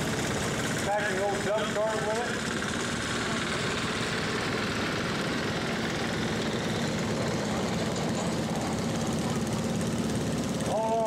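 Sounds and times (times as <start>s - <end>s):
garden tractor engine running: 0.0s - 11.0s
tractor driving on gravel: 0.0s - 11.0s.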